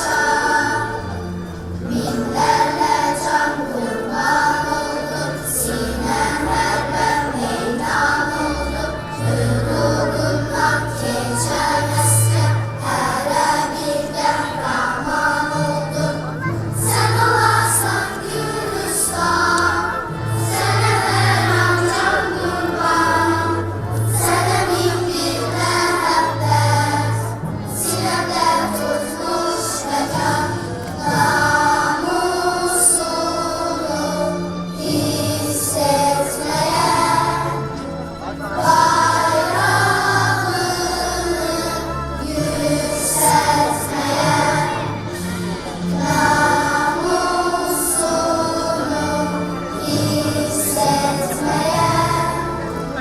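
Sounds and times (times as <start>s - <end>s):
choir singing: 0.0s - 53.0s
instrumental accompaniment: 0.0s - 53.0s.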